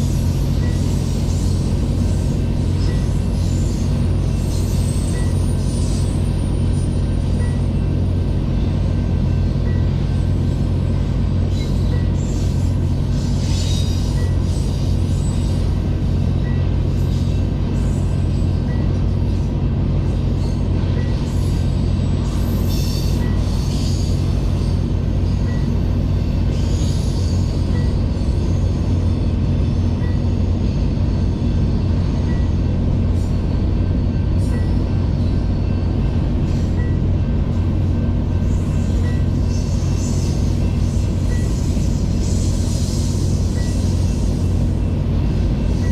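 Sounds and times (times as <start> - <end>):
freight train rumbling past: 0.0 - 45.9
train wheels squealing: 0.0 - 45.9.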